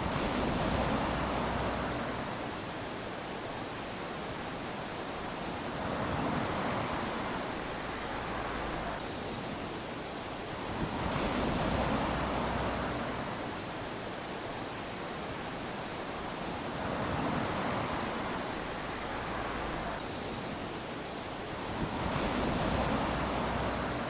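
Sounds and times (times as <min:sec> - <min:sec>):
small waves lapping on sand: 0:00.0 - 0:24.0.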